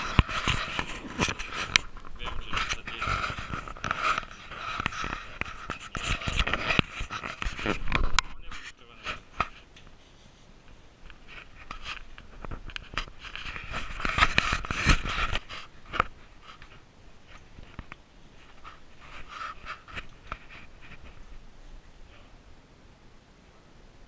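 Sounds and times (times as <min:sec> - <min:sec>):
hands and boots scraping rungs: 0:00.0 - 0:09.7, 0:11.1 - 0:21.3.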